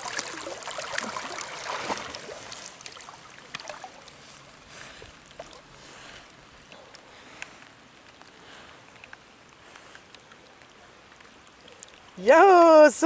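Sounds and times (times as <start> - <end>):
water splashing from swimming dogs: 0.0 - 12.7
rain ticking on water: 0.0 - 13.0.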